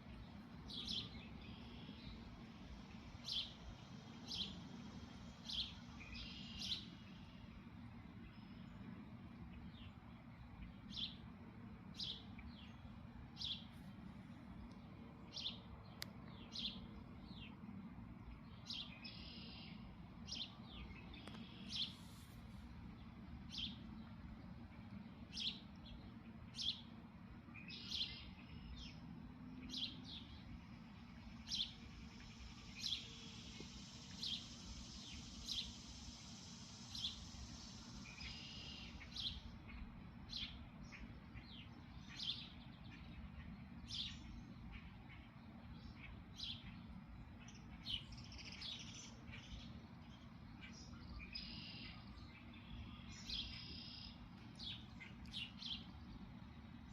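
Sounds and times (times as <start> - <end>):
low background rumble: 0.0 - 56.9
small birds chirping: 0.0 - 56.9.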